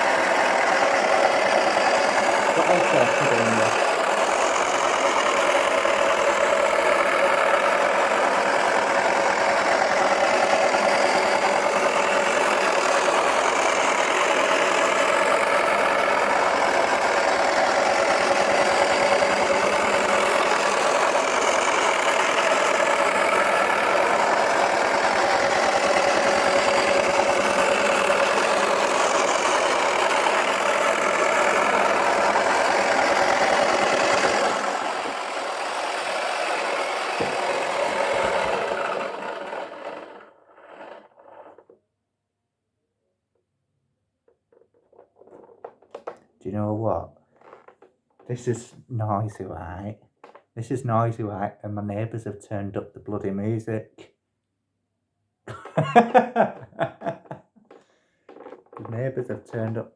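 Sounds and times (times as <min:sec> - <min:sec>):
toy washing machine motor whirring: 0:00.0 - 0:41.8, 0:44.3 - 0:49.4, 0:50.2 - 0:50.5, 0:55.5 - 0:59.9.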